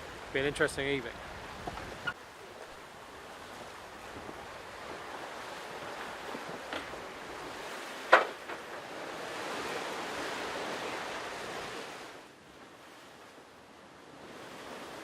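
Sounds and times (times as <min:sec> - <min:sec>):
sea water rushing past boat: 0:00.0 - 0:15.0.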